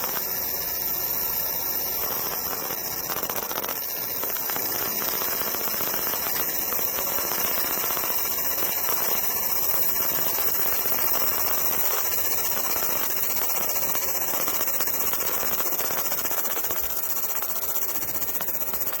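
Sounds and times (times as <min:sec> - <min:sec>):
laser high hissing buzz: 0:00.0 - 0:19.0.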